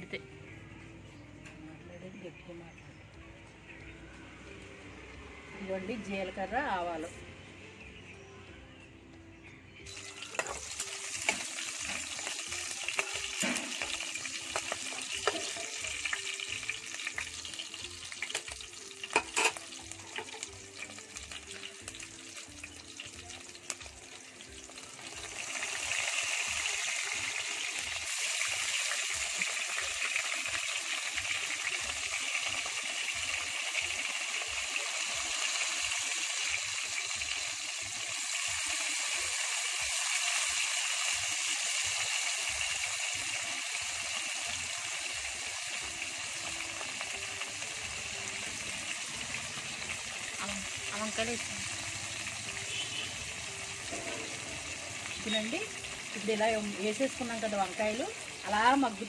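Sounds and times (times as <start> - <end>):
hot oil sizzling in a pan: 9.8 - 59.0.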